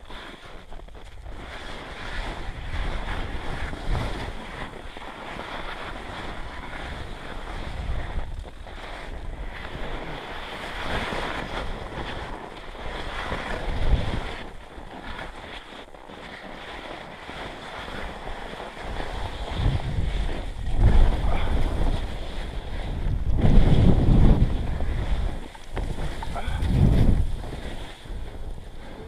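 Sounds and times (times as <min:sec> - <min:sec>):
skis swishing through powder snow: 0:00.0 - 0:29.0
wind rushing over microphone: 0:00.0 - 0:29.0.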